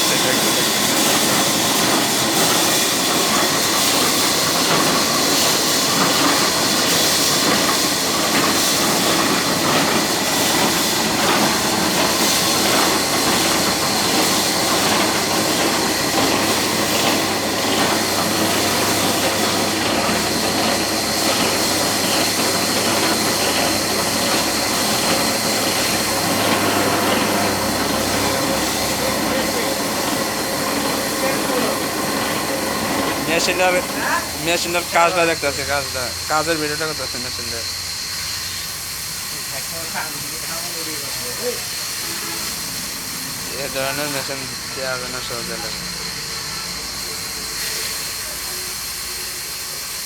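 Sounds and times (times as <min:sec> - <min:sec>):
sawmill machine cutting wood: 0:00.0 - 0:50.0.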